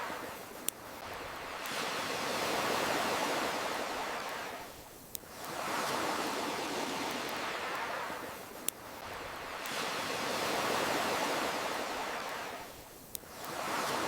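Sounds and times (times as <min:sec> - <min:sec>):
ocean waves washing up: 0:00.0 - 0:14.0.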